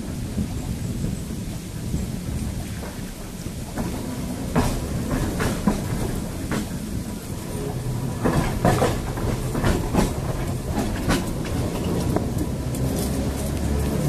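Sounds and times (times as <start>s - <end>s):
tram rumble: 0.0s - 14.0s
wheels clicking on rails: 0.0s - 14.0s.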